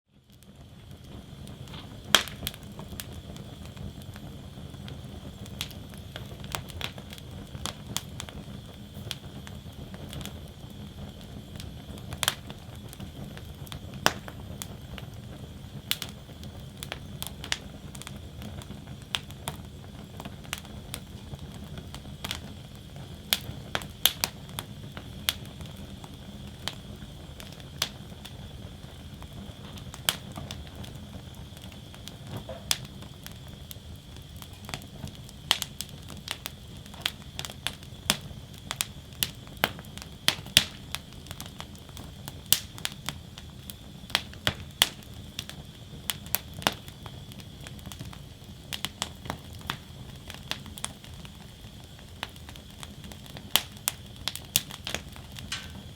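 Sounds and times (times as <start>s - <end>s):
burning logs popping and crackling: 0.1s - 55.9s
low rush of flames: 0.1s - 55.9s.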